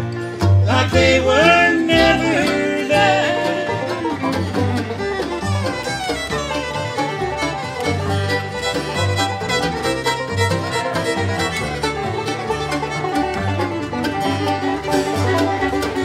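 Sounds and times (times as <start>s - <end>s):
banjo: 0.0s - 16.0s
fiddle: 0.0s - 16.0s
guitar: 0.0s - 16.0s
mandolin: 0.0s - 16.0s
upright bass: 0.0s - 16.0s.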